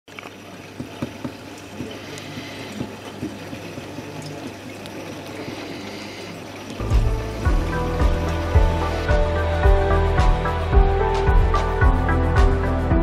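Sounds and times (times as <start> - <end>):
water trickling: 0.1 - 12.1
low pump hum: 0.1 - 13.0.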